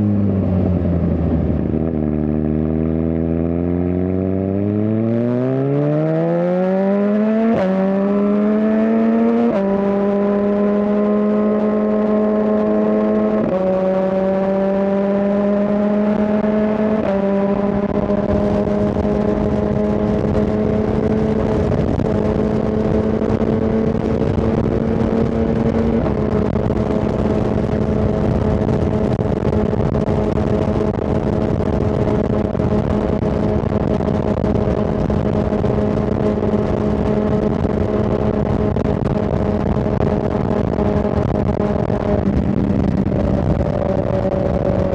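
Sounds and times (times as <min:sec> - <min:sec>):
motorcycle engine revving through gears: 0:00.0 - 0:44.9
wind noise: 0:00.0 - 0:44.9.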